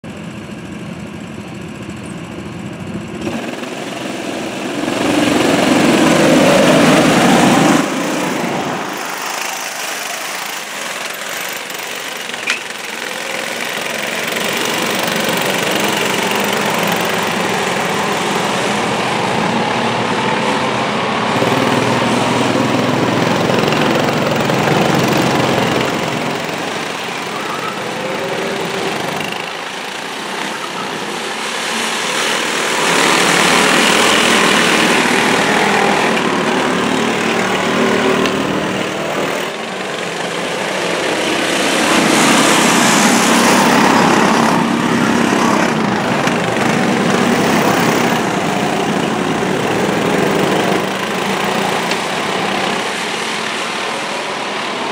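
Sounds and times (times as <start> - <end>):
go-kart engines revving: 0.0 - 54.9.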